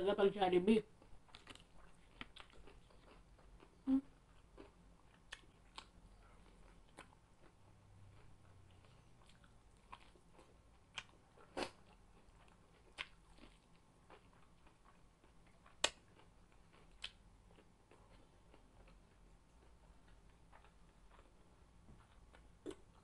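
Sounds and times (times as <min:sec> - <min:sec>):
soft chewing: 0:00.9 - 0:23.0
crunching fried chicken: 0:01.2 - 0:23.0.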